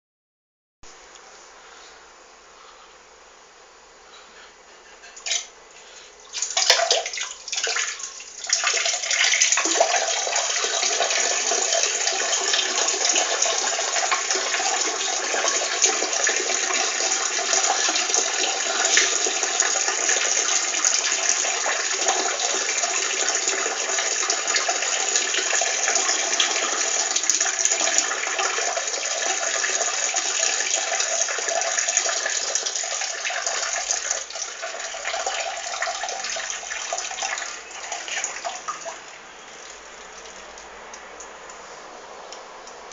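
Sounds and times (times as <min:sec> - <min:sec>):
person urinating: 0:05.2 - 0:40.7.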